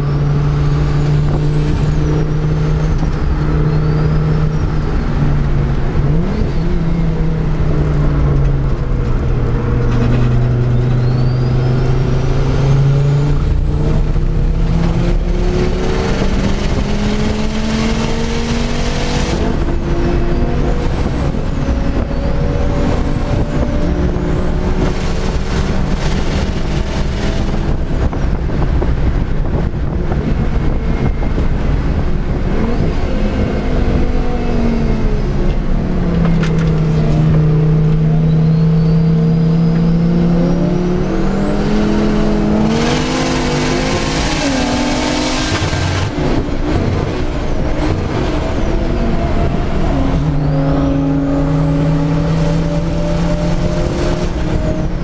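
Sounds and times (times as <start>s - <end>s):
car engine revving through gears: 0.0s - 55.0s
high turbo whine: 0.0s - 55.0s
road and wind noise: 0.0s - 55.0s.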